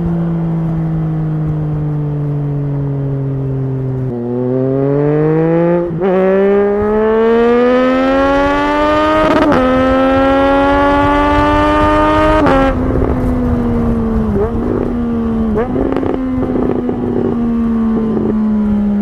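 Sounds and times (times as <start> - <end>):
motorcycle engine accelerating: 0.0 - 19.0
quick gear upshifts: 0.0 - 19.0.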